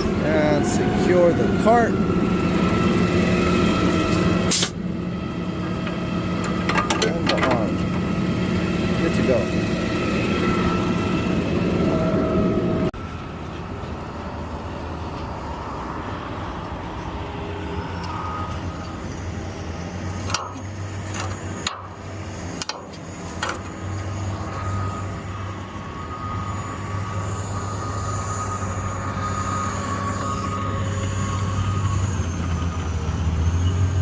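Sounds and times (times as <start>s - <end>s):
garbage truck engine hum: 0.0s - 34.0s.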